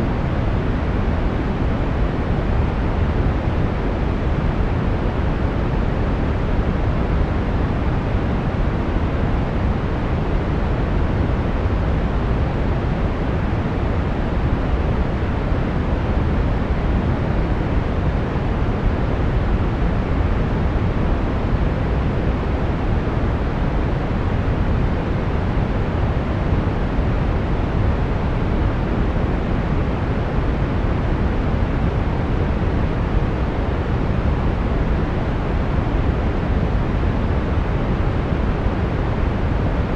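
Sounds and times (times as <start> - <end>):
brown noise rush: 0.0 - 39.9.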